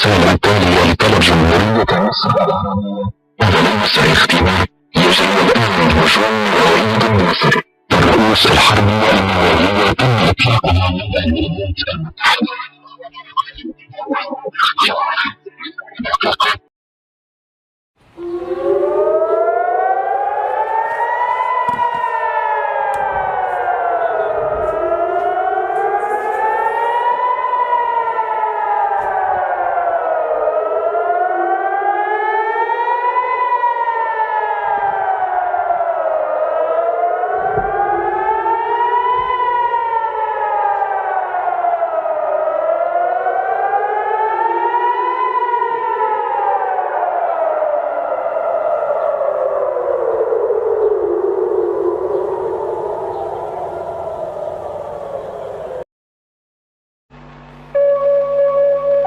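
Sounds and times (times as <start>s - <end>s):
siren wailing: 0.0s - 16.6s, 18.1s - 55.8s, 57.7s - 59.0s.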